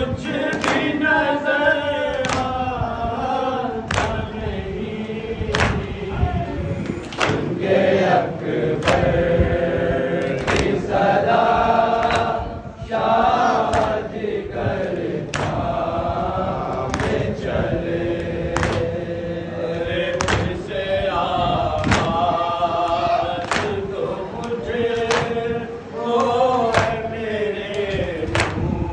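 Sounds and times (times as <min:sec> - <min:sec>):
men chanting in unison: 0:00.0 - 0:28.9.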